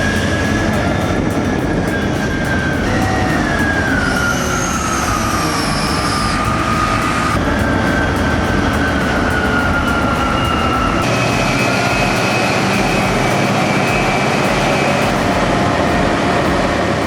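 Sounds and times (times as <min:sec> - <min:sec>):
earth-moving machine running: 0:00.0 - 0:17.0
high whine falling in pitch: 0:00.0 - 0:17.0.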